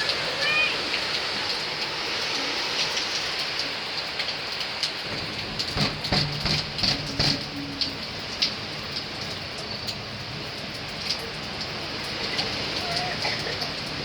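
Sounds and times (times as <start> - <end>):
heavy rain: 0.0 - 14.0
wind gusts: 0.0 - 14.0.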